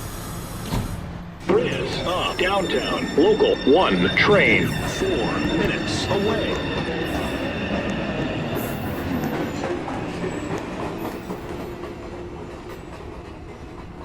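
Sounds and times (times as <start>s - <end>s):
subway train wheels clattering: 0.0s - 14.0s.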